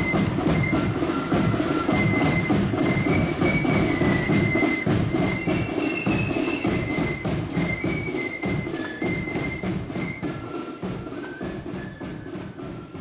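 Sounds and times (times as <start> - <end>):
high flute melody: 0.0 - 13.0
snare drum beats: 0.0 - 13.0.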